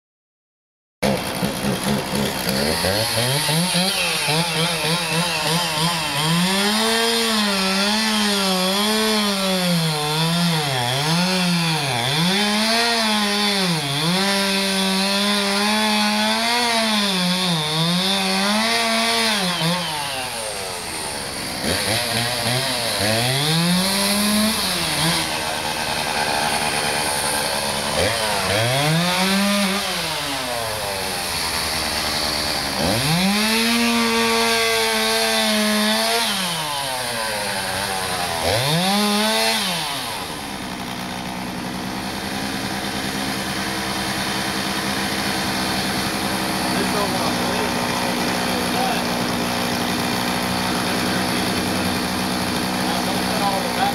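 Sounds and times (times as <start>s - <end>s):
chainsaw cutting wood: 1.0s - 53.9s.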